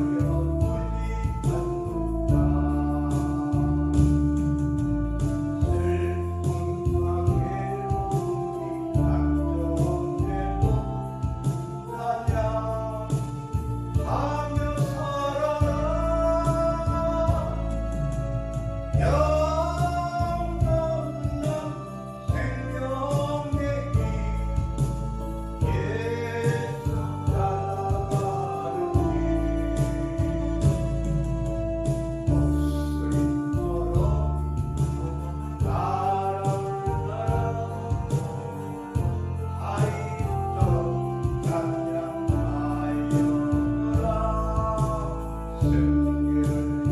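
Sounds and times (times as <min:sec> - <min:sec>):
bass line: 0:00.0 - 0:46.9
instrumental accompaniment with beat: 0:00.0 - 0:46.9
man singing: 0:00.0 - 0:46.9
percussion: 0:00.0 - 0:46.9.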